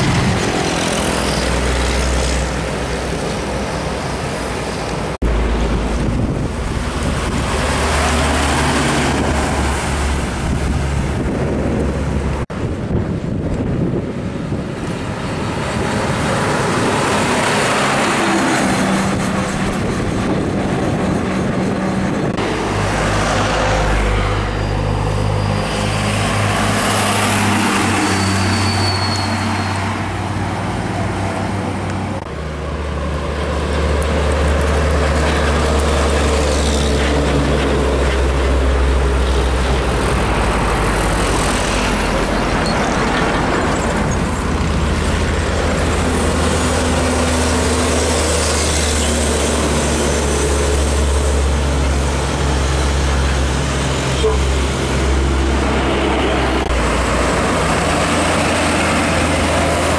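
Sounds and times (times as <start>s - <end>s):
diesel truck engine drone: 0.0s - 59.9s
tyre and traffic noise: 0.0s - 59.9s.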